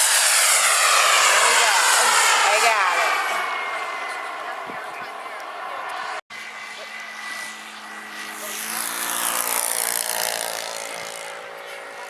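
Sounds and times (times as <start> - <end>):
model jet turbine whine: 0.0 - 12.0.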